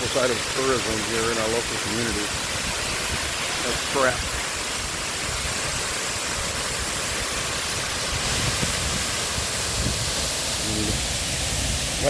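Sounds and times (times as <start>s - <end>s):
water rushing through spillway: 0.0s - 12.0s.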